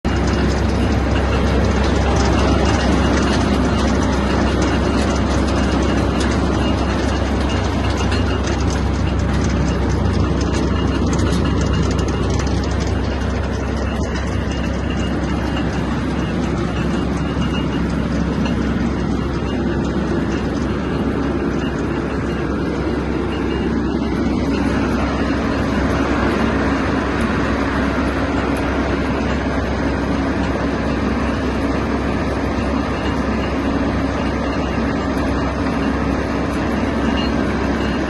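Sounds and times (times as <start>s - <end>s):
round baler clattering: 0.0s - 38.0s
tractor engine drone: 0.0s - 38.0s.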